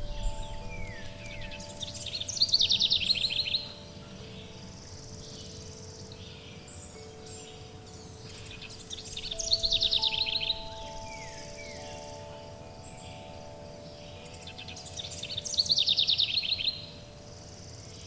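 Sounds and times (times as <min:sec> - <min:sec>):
songbird trilling: 0:00.0 - 0:18.0
wind chimes ringing: 0:00.0 - 0:18.0.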